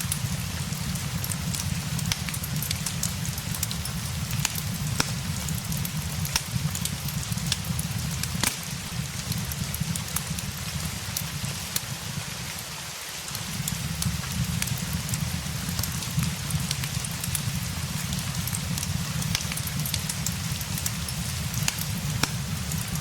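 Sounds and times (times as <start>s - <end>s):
steady rain: 0.0s - 23.0s
wood fire crackling and popping: 0.0s - 23.0s.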